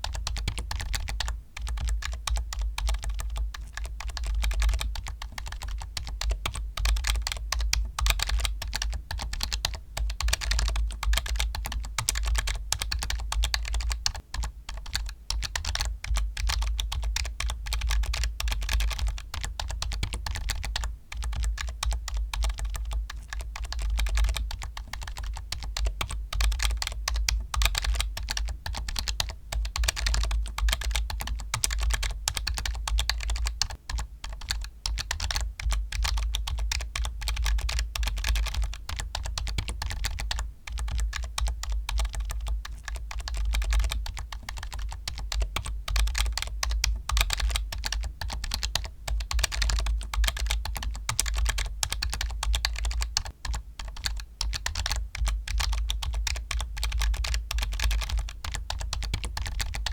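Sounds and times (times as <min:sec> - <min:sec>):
computer keyboard typing: 0:00.0 - 0:59.9.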